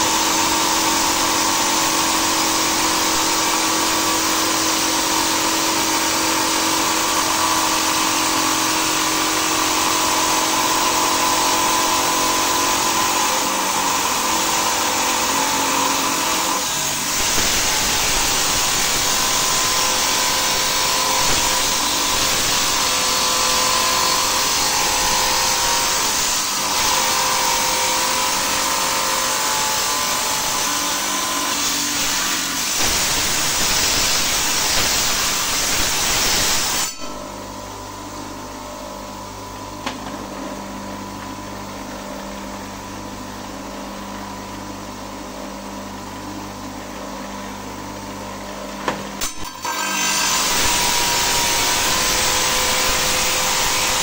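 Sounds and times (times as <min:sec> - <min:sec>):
electric stone-cutting saw humming: 0:00.0 - 0:40.3, 0:49.2 - 0:54.0.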